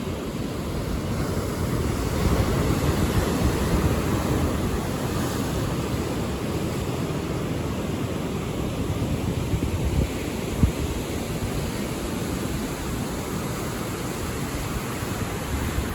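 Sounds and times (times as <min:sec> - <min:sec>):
waves breaking: 0:00.0 - 0:15.9
wind on microphone: 0:00.0 - 0:15.9.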